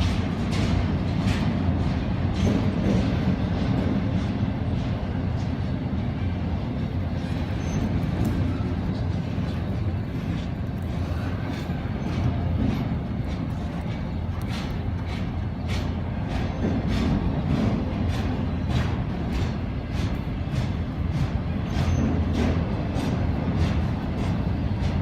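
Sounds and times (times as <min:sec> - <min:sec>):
freight train rumbling on rails: 0:00.0 - 0:25.0
wheels clicking over rail joints: 0:00.0 - 0:25.0.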